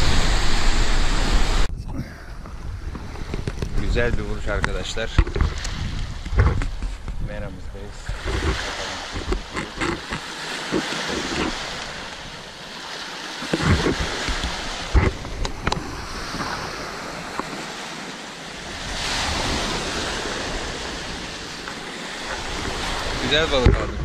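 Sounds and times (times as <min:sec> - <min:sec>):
waves washing on stony beach: 0:00.0 - 0:01.7, 0:02.4 - 0:24.0
wind buffeting microphone: 0:00.0 - 0:24.0.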